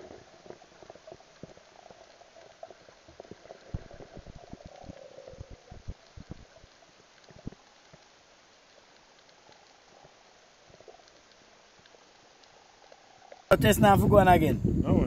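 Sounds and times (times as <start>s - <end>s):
faint bubbling water: 0.0s - 15.0s.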